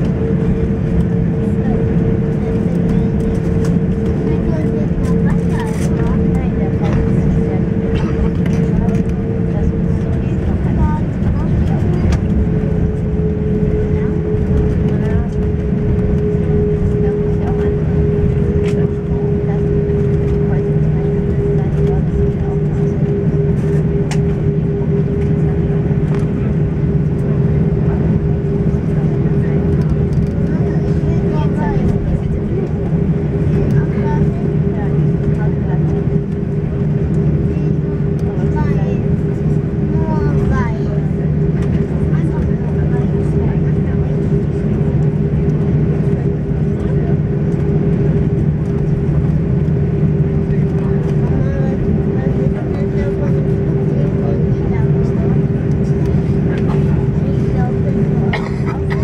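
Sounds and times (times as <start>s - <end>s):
aircraft engine hum: 0.0s - 59.0s.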